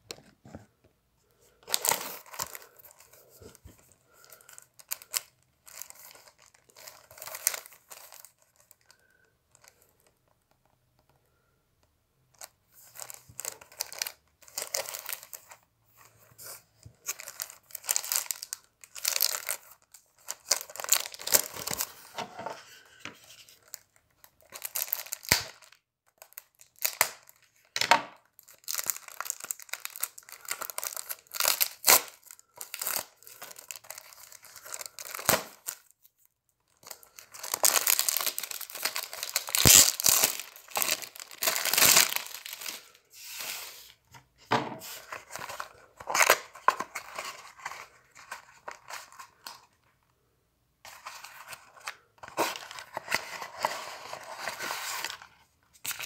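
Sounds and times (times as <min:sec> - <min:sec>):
plastic shrink wrap crinkling: 0:01.6 - 0:09.9, 0:12.4 - 0:44.0, 0:44.8 - 0:49.8.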